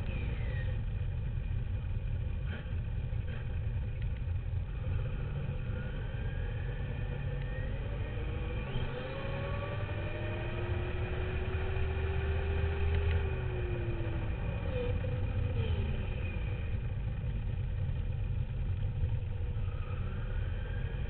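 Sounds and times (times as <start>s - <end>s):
low rumble of wheels and wind: 0.0s - 21.0s.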